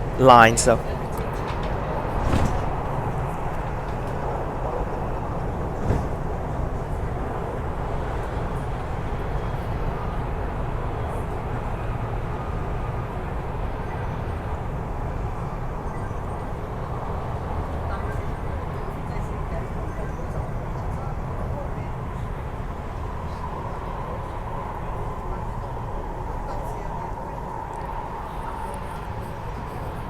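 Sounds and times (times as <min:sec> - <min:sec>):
train interior rumble: 0:00.0 - 0:30.0.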